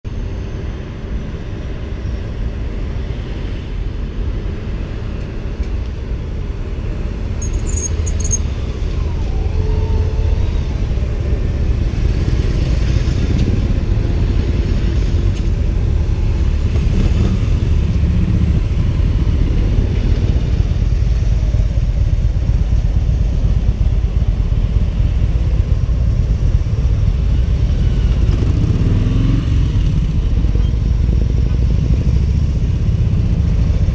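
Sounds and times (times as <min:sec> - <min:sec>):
motor vehicle engine rumble: 0:00.1 - 0:33.9.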